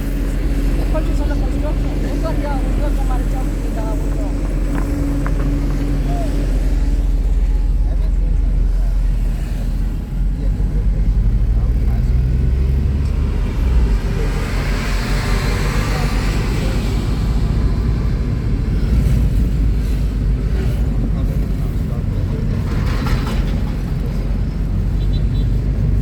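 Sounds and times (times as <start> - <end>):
vehicle passing: 0.0 - 23.0
traffic low rumble: 0.0 - 26.0.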